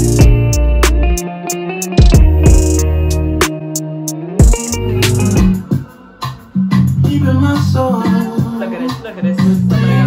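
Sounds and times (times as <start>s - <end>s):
instrumental music with bass line: 0.0s - 10.0s.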